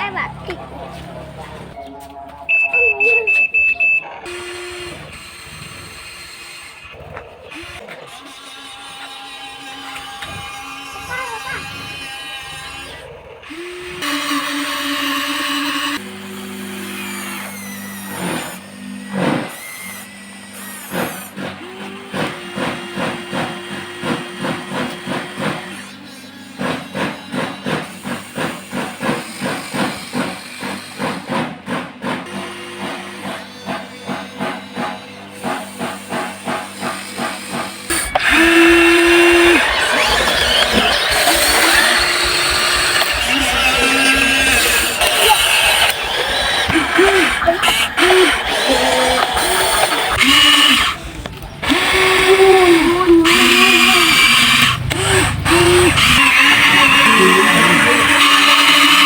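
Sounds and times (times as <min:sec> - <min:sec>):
small electric motors whining: 0:04.2 - 0:59.0.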